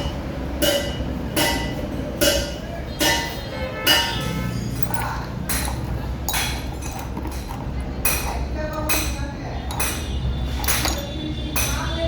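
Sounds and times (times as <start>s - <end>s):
metal clinking on metal: 0.6s - 11.9s.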